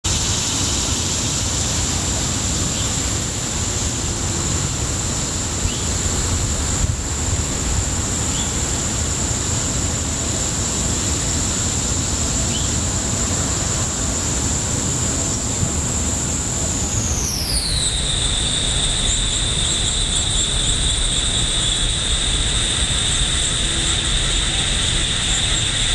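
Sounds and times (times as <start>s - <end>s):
high-pitched whine: 0.0s - 25.9s
steady rushing noise: 0.0s - 25.9s.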